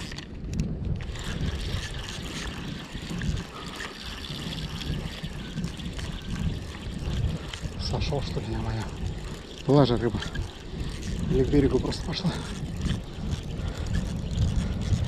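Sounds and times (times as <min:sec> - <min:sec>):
wind buffeting microphone: 0:00.0 - 0:15.0
water lapping at shore: 0:01.0 - 0:15.0.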